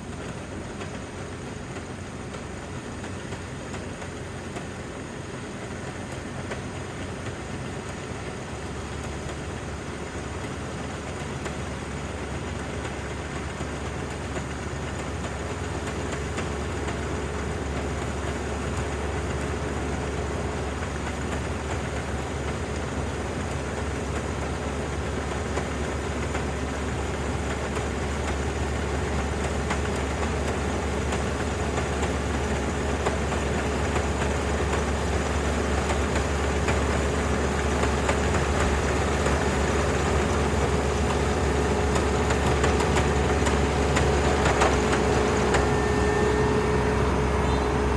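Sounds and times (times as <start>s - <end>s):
combine harvester running: 0.0s - 47.9s.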